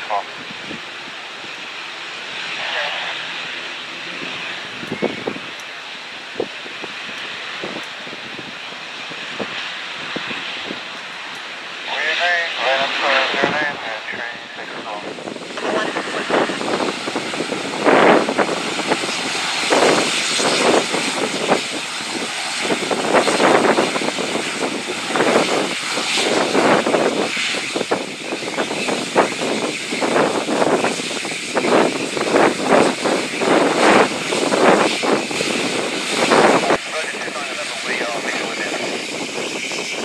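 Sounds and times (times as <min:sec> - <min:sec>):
turboprop engines running: 0:00.0 - 0:40.0.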